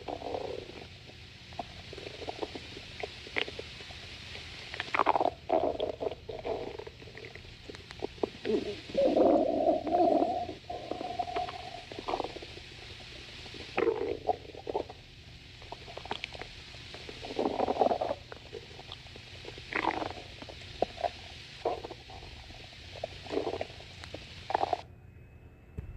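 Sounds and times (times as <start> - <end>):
stomach growling: 0.0 - 24.8.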